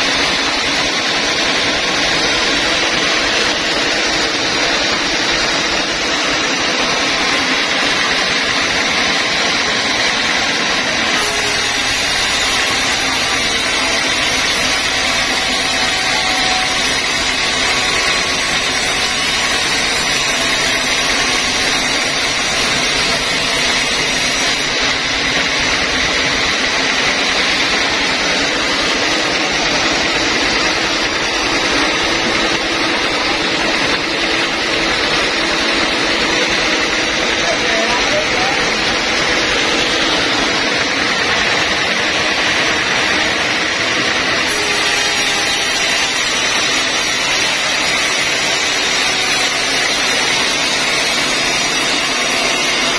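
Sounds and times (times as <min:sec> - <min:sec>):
band saw cutting timber: 0:00.0 - 0:52.9.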